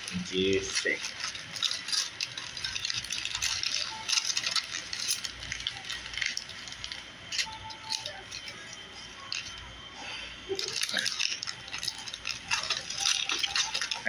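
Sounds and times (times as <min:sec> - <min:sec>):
aluminum foil crumpling: 0:00.0 - 0:14.0.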